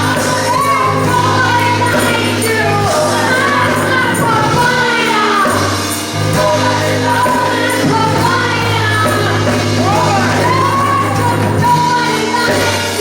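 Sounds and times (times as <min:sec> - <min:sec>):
choir singing gospel music: 0:00.0 - 0:13.0
instrumental accompaniment: 0:00.0 - 0:13.0.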